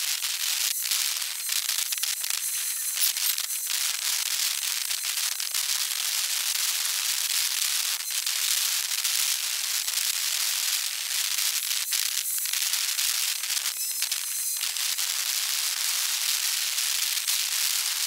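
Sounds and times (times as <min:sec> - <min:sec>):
dense crackling hiss: 0:00.0 - 0:18.0.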